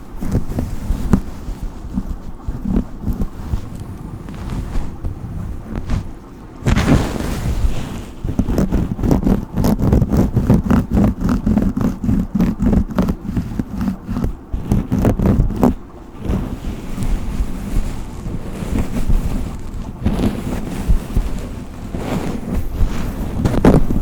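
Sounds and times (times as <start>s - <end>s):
brush stroking through hair: 0.0s - 24.0s.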